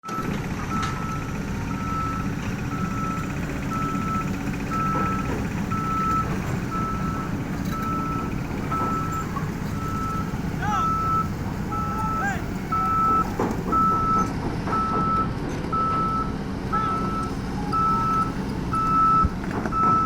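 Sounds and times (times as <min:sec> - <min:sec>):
diesel engine rumble: 0:00.0 - 0:20.0
backup alarm beeping: 0:00.1 - 0:20.0.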